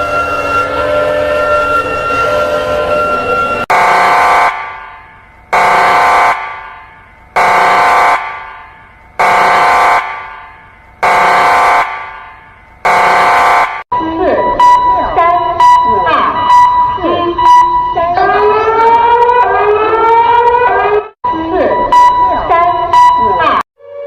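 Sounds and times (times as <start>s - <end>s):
horn warning siren blasts: 0.0s - 24.0s.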